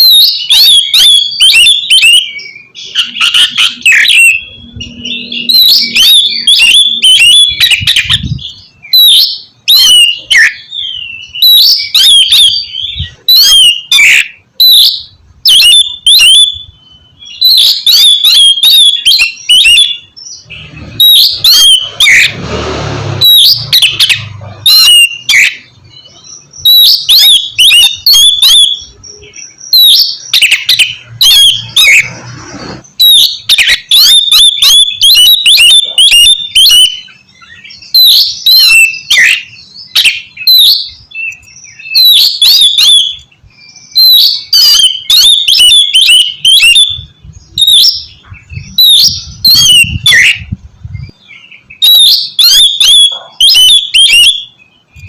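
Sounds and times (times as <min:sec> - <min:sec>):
bird singing whistles and chirps: 0:00.0 - 0:22.4, 0:23.2 - 0:55.0.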